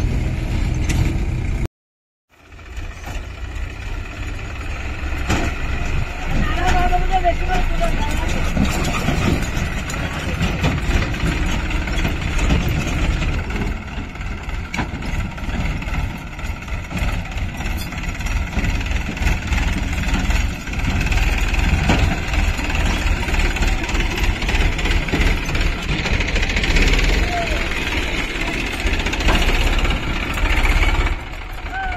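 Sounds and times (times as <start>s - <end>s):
tractor diesel engine rumbling: 0.0s - 1.7s, 2.3s - 31.9s.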